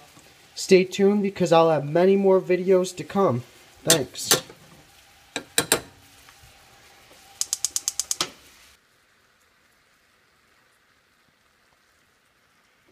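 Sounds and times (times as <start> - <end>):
faint steady hiss: 0.0 - 12.9.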